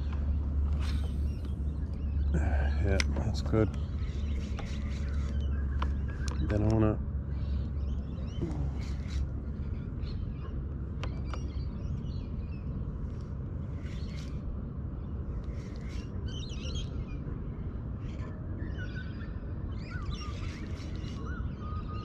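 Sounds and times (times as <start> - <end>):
low background rumble: 0.0 - 22.0
small birds chirping: 0.0 - 22.0.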